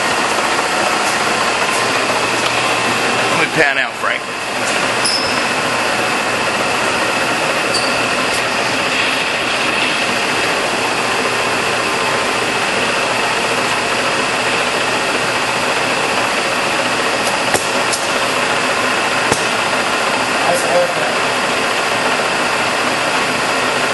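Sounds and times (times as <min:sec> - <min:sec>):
thin high whine: 0:00.0 - 0:22.1
lathe mechanical whir: 0:00.0 - 0:23.9.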